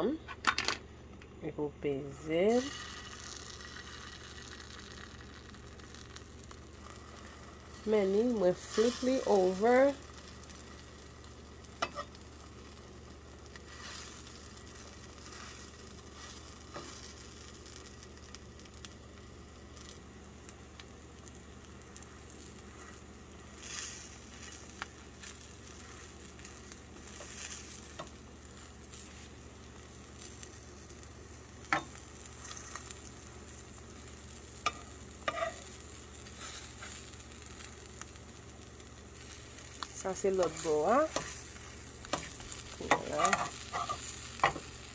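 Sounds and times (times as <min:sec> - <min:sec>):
bread sizzling in a pan: 0:02.0 - 0:44.9.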